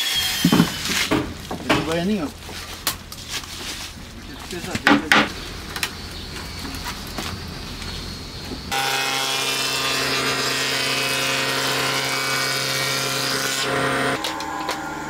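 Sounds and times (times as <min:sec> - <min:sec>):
wood planer running: 0:00.0 - 0:15.0
low hum: 0:00.1 - 0:12.9.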